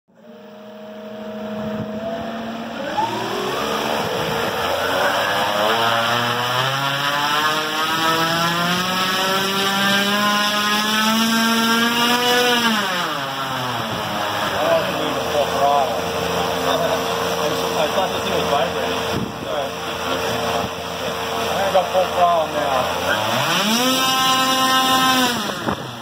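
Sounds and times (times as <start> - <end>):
electric motor whining: 0.1 - 26.0
propeller noise: 0.1 - 26.0.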